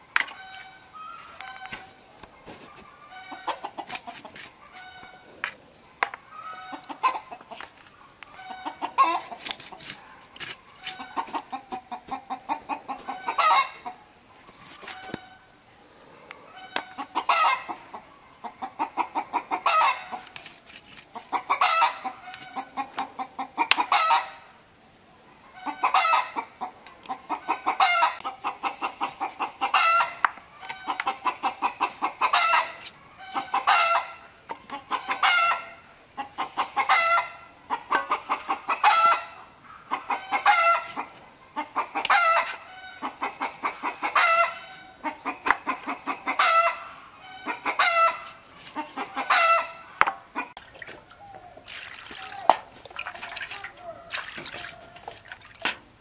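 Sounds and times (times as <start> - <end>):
chickens clucking: 0.0 - 15.4, 16.0 - 24.5, 25.3 - 56.0.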